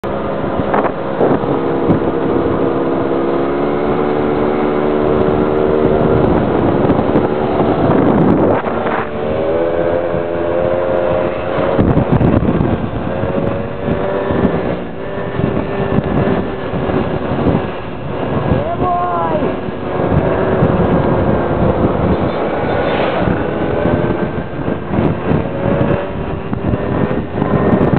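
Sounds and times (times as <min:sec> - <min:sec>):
scooter engines running: 0:00.0 - 0:27.9
wind buffeting microphone: 0:00.0 - 0:27.9.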